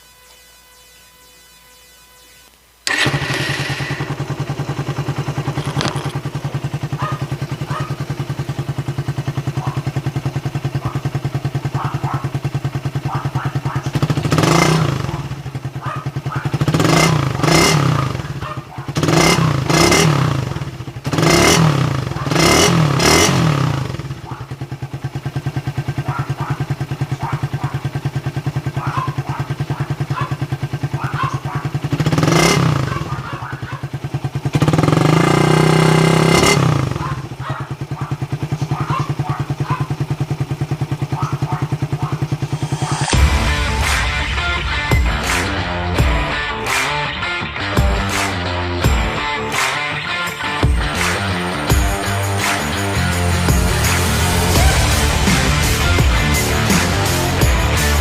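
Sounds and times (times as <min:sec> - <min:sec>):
motorcycle engine idling and revving: 0:02.8 - 0:58.0.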